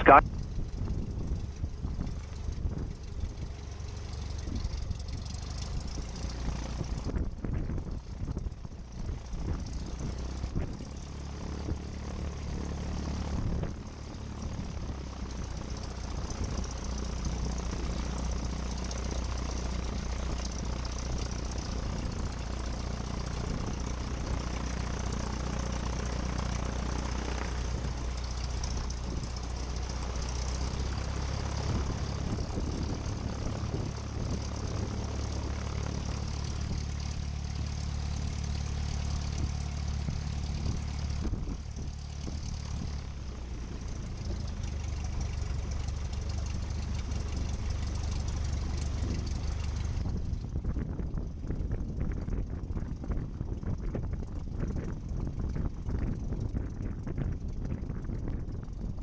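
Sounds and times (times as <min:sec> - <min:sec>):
aircraft engine idling: 0:00.0 - 0:59.0.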